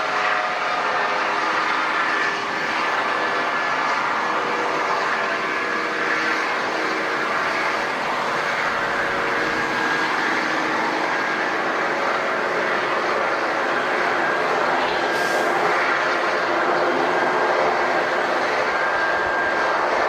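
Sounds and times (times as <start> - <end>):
airliner engines running: 0.0 - 20.0.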